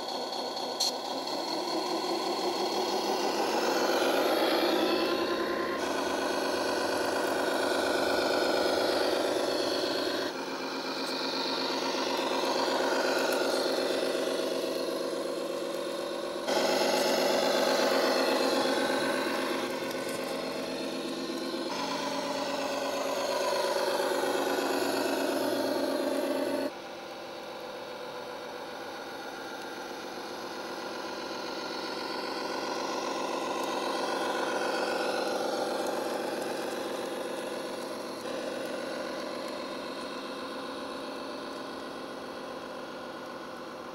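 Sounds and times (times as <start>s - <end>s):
simulated truck engine from speaker: 0.0s - 43.9s.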